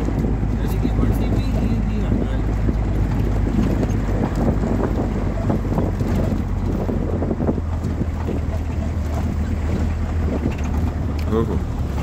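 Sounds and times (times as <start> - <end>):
knocks and rattles: 0.0 - 12.0
vehicle engine and tyre drone: 0.0 - 12.0.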